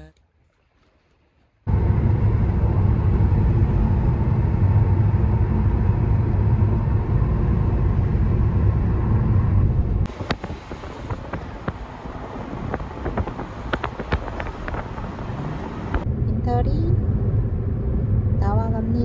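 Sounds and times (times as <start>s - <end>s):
car road rumble inside cabin: 1.7s - 19.0s.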